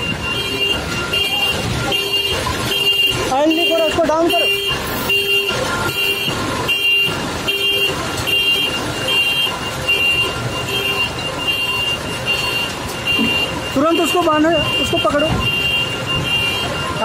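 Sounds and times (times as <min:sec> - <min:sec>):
machine warning beeper: 0:00.0 - 0:06.4, 0:08.7 - 0:17.0.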